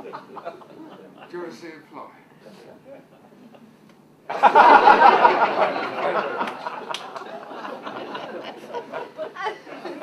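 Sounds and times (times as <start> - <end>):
audience laughing: 0.0 - 1.3, 2.7 - 10.0.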